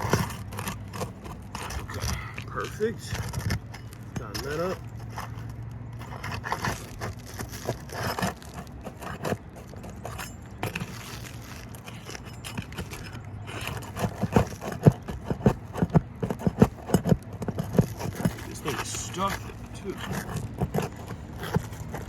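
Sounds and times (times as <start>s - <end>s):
roofing nails being pried loose: 0.0s - 22.0s
tool scraping under roof shingles: 0.0s - 22.0s.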